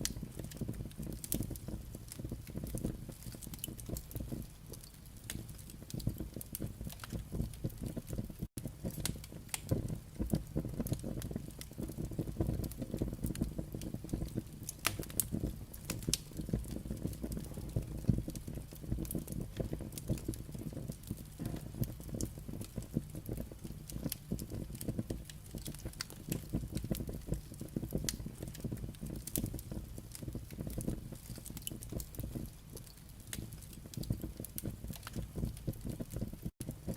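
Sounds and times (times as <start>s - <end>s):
firewood crackling and popping: 0.0s - 36.9s
low rumble of fire: 0.0s - 36.9s
sharp cracks of fire: 0.0s - 36.9s.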